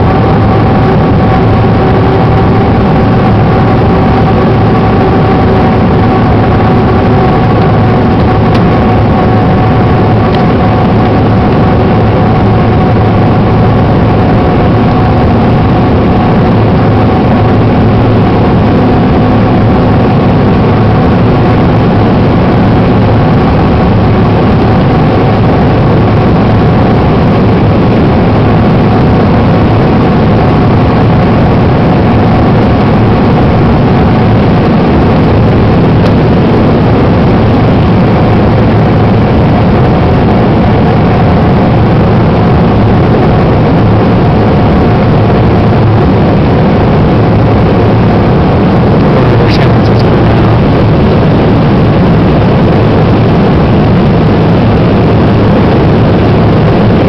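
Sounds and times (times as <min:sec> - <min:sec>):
faint steady hum tones: 0:00.0 - 0:57.0
jet engine and airflow rush: 0:00.0 - 0:57.0.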